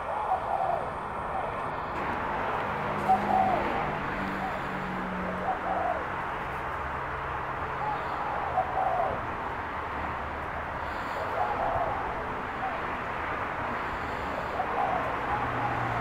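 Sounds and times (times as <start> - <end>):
dove cooing: 0.0 - 2.0, 2.7 - 6.7, 7.6 - 9.4, 10.5 - 16.0.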